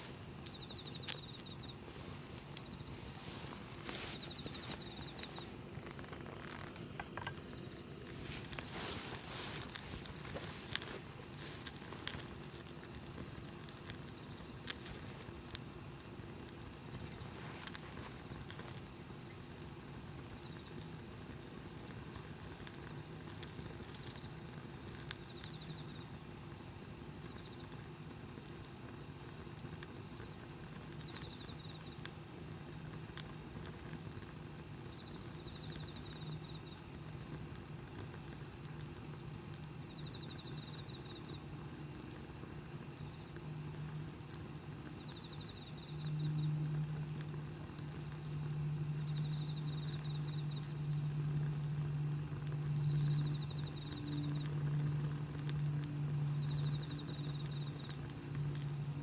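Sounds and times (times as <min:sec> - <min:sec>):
campfire crackling and popping: 0:00.0 - 0:59.0
insect chirps: 0:00.0 - 0:59.0.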